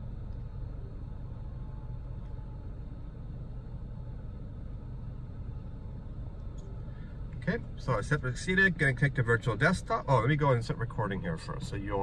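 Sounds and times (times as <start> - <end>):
low hum inside car cabin: 0.0 - 12.0.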